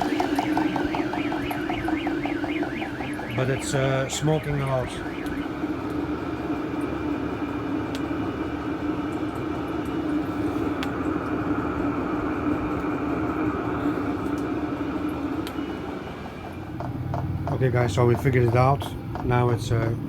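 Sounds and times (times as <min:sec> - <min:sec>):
diesel air heater whirring hum: 0:00.0 - 0:20.0.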